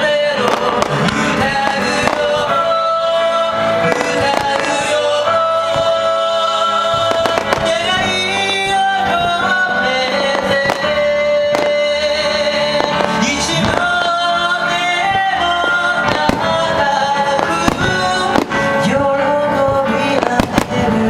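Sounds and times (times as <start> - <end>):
fireworks banging: 0.0 - 21.0
song with singing: 0.0 - 21.0.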